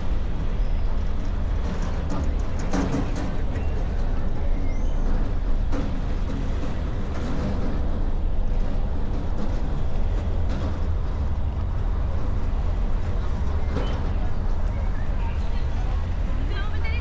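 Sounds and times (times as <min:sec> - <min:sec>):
tyre and engine noise: 0:00.0 - 0:17.0
wind rumble on microphone: 0:00.0 - 0:17.0.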